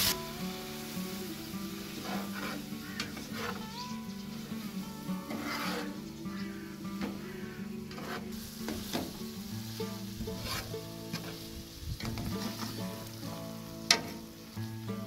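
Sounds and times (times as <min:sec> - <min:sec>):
food sizzling in oil: 0:00.0 - 0:15.0
metal skimmer scraping pan: 0:02.0 - 0:14.3.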